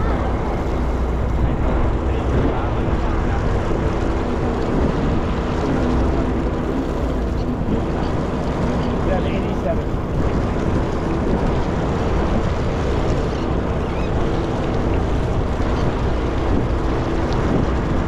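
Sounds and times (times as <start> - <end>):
boat engine humming: 0.0 - 18.0
water noise: 0.0 - 18.0
wind on microphone: 0.0 - 18.0.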